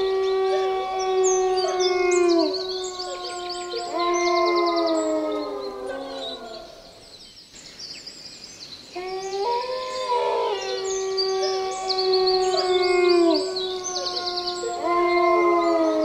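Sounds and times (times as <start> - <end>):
dogs howling: 0.0 - 7.0, 9.0 - 16.0.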